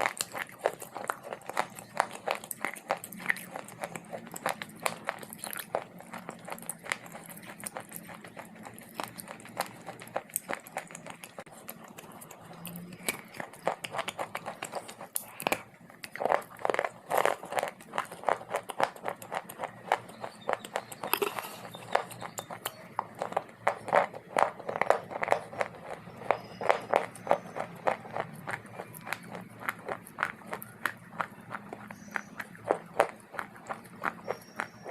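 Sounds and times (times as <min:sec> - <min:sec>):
person chewing dry clay: 0:00.0 - 0:34.9.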